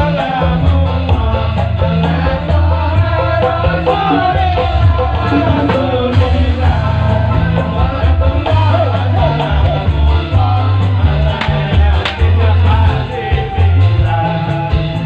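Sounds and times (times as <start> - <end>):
heavy bass line: 0.0 - 15.0
loud amplified folk music: 0.0 - 15.0
person singing: 0.0 - 15.0.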